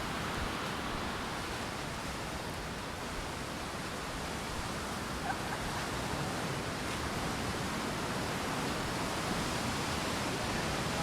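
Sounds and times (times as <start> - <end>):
strong wind and rain: 0.0 - 11.0.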